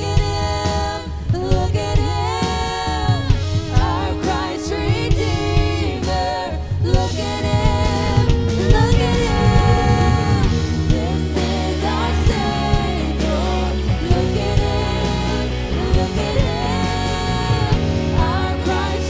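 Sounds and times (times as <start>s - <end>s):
band with drums and bass: 0.0s - 19.0s
woman singing into a microphone: 0.0s - 19.0s.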